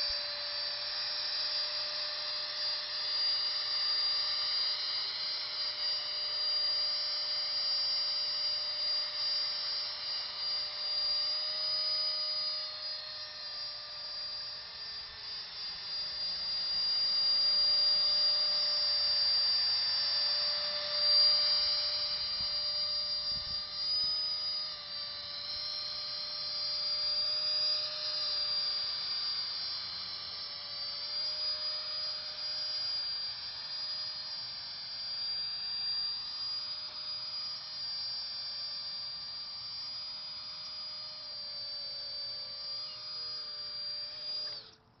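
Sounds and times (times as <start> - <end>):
drone motor whine: 0.0 - 45.0.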